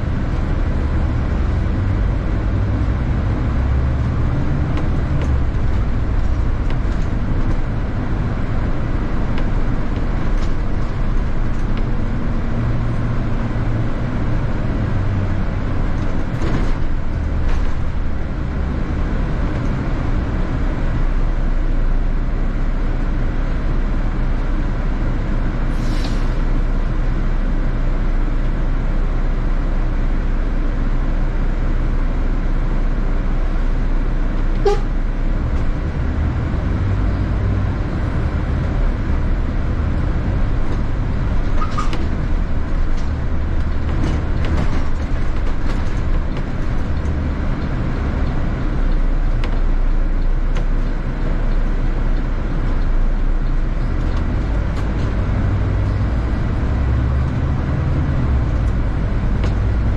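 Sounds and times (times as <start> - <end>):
bus engine and road drone: 0.0 - 59.9.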